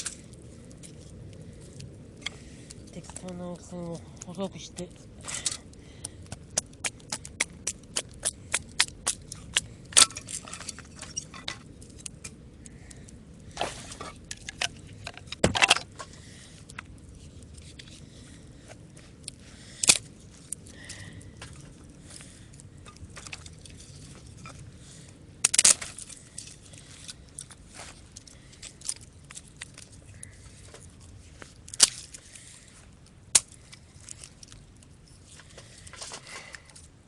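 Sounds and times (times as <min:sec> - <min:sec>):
wood scraping and splitting: 0:00.0 - 0:36.9.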